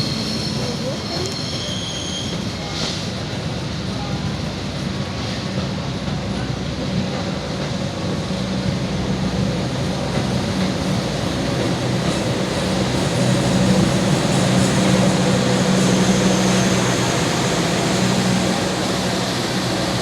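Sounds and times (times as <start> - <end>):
locomotive engine rumble: 0.0 - 20.0.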